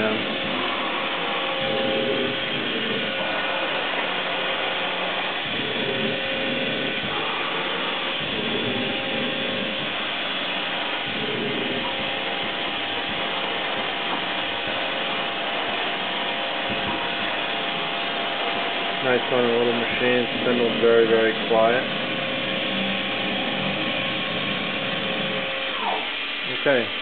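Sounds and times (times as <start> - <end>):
machine spindle whirring: 0.0 - 27.0.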